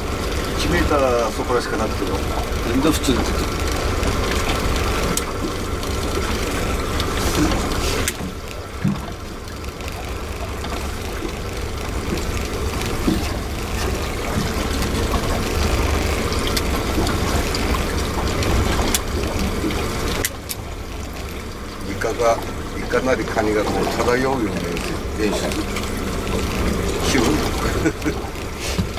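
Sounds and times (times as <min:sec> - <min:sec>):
boat engine rumble: 0:00.0 - 0:28.9
water lapping: 0:00.0 - 0:28.9.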